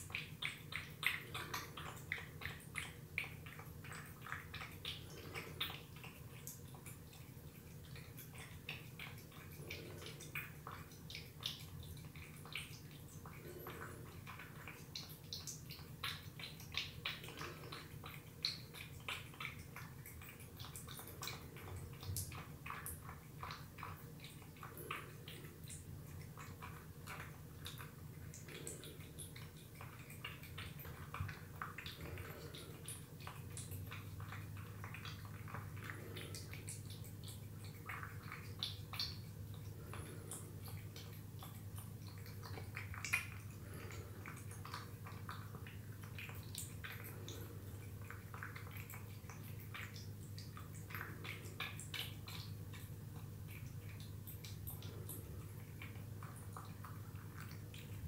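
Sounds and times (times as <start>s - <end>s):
cat lapping and chewing: 0.0s - 58.0s
steady low hum: 0.0s - 58.0s.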